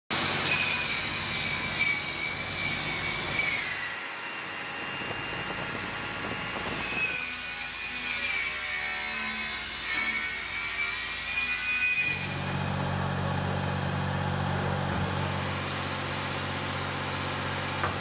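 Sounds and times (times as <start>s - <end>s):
angle grinder on steel pipe: 0.1s - 15.6s.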